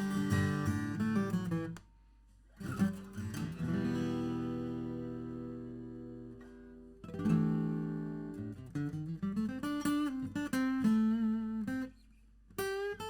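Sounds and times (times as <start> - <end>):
acoustic guitar playing: 0.0 - 1.8, 2.5 - 13.0.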